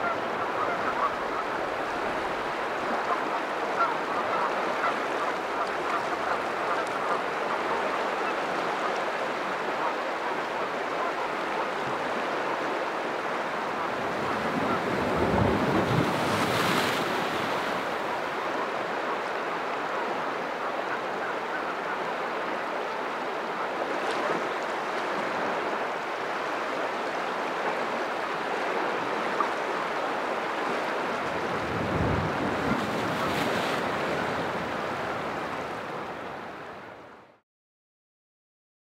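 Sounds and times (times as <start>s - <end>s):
surf washing over rocks: 0.0s - 37.1s.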